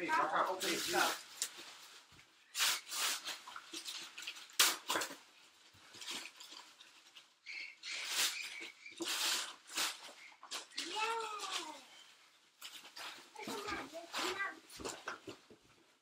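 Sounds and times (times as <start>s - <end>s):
wrapping paper crinkling and tearing: 0.1s - 14.9s.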